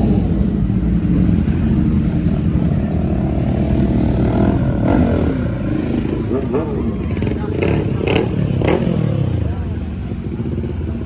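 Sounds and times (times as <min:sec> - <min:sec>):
car and motorcycle engines rumbling: 0:00.0 - 0:11.0.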